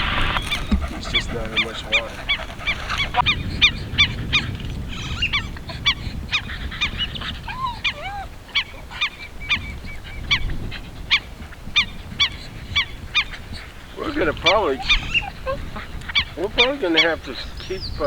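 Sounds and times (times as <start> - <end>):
birds piping calls: 0.0 - 18.0.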